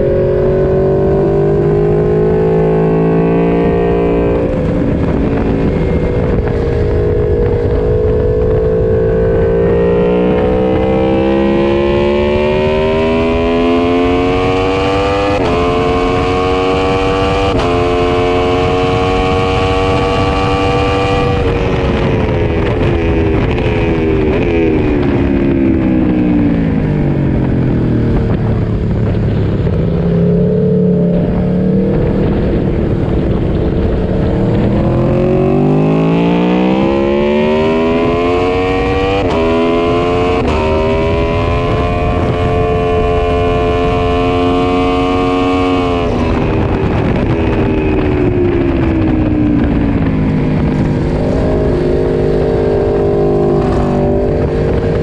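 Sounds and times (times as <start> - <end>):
motorcycle engine accelerating: 0.0 - 55.0
wind noise: 0.0 - 55.0.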